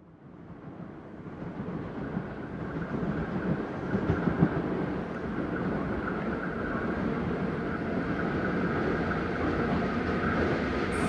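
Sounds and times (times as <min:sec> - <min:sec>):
electric locomotive rumbling on rails: 0:00.0 - 0:11.0.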